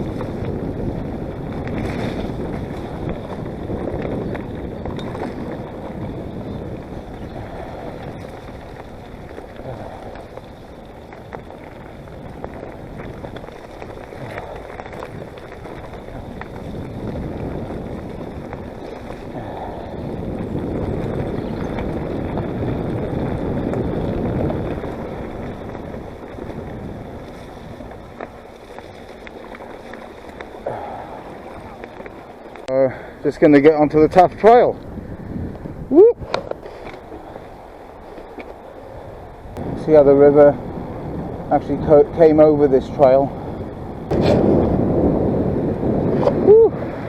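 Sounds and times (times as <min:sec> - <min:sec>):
mountain bike rolling on trail: 0:00.0 - 0:47.0
wind buffeting microphone: 0:00.0 - 0:47.0.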